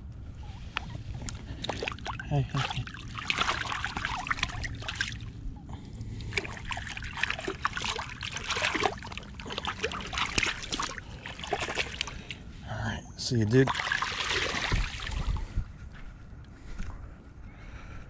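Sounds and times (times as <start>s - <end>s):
shallow water splashing: 0.4s - 12.6s, 13.3s - 15.7s.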